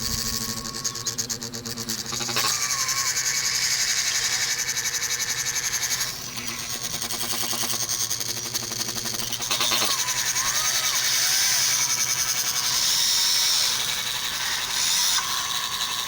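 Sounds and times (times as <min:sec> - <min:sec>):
electric motors whirring: 0:00.0 - 0:16.0.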